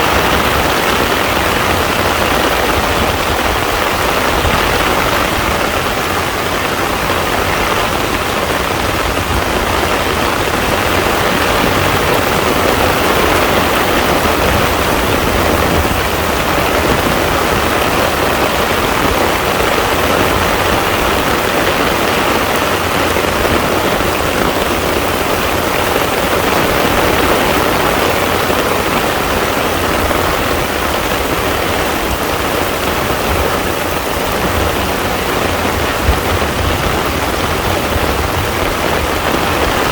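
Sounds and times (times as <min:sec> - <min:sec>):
heavy rain falling on water: 0:00.0 - 0:39.9.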